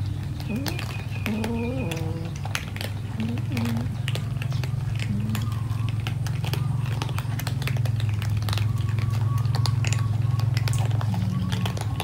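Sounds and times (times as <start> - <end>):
cats crunching dry kibble: 0.0 - 12.0
steady low hum: 0.0 - 12.0.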